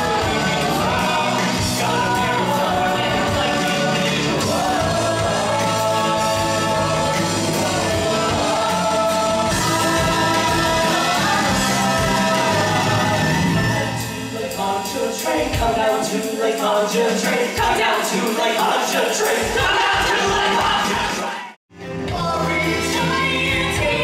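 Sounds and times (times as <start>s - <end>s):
rock music with singing: 0.0s - 24.0s.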